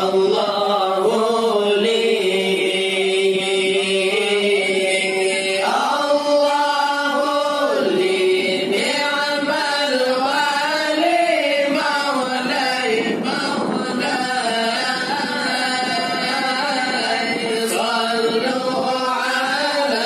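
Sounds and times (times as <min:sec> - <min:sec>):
men chanting in unison: 0:00.0 - 0:20.0.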